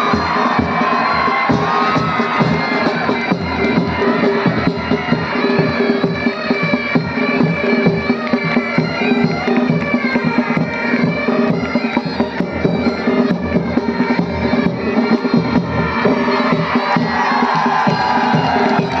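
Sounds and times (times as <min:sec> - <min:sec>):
bagpipes playing melody: 0:00.0 - 0:19.0
drums beating: 0:00.0 - 0:19.0.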